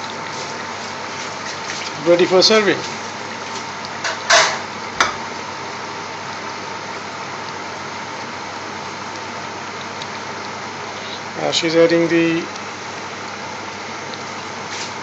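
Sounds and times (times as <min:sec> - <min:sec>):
curry bubbling in a pot: 0:00.0 - 0:15.0.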